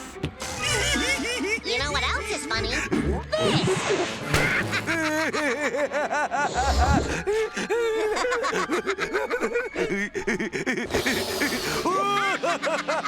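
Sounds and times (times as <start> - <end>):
cartoon character laughing: 0.6 - 13.0.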